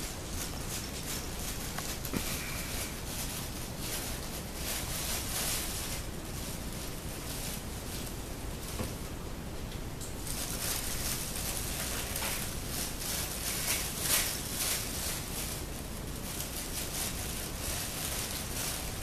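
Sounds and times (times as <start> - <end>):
rustling and crackling: 0.0 - 9.2, 10.0 - 19.0.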